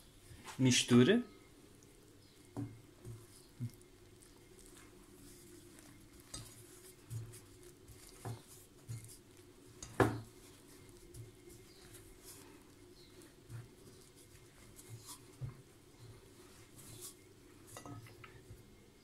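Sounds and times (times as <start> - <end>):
wooden spoon stirring dough: 0.0 - 19.0.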